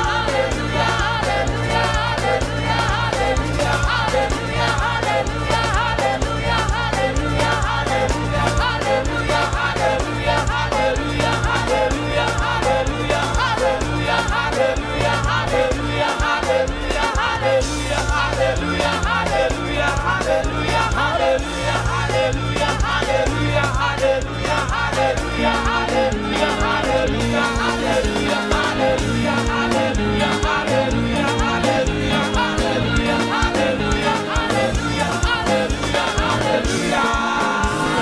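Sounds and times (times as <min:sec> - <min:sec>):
bass notes: 0:00.0 - 0:38.0
congregation and choir singing: 0:00.0 - 0:38.0
drums keeping a beat: 0:00.0 - 0:38.0.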